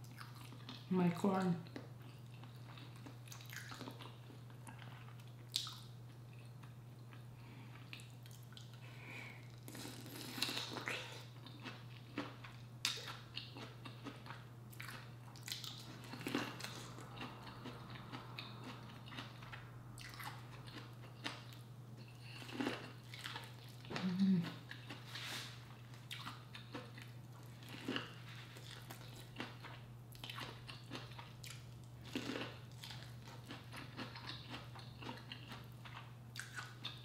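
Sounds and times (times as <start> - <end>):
steady low hum: 0.0 - 37.0
chewing corn on the cob: 1.6 - 8.8, 9.4 - 37.0.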